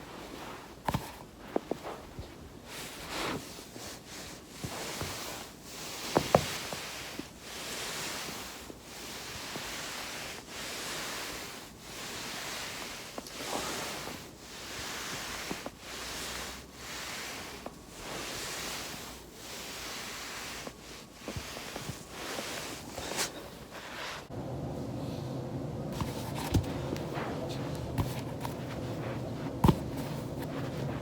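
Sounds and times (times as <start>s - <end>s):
body rolling on foam roller: 0.0s - 24.3s, 25.9s - 31.0s.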